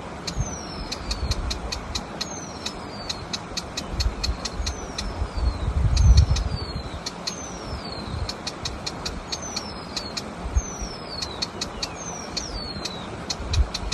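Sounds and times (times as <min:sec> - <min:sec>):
sharp bird ticks: 0:00.1 - 0:13.9
warbler whistled calls: 0:00.2 - 0:13.9.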